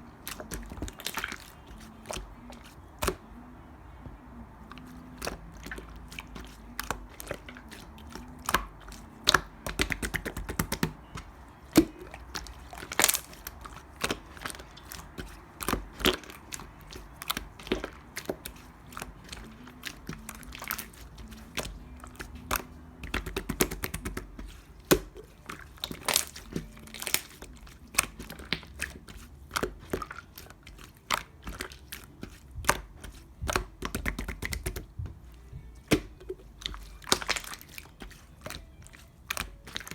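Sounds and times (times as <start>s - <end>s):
hands squishing slime: 0.0s - 3.4s, 4.0s - 39.9s.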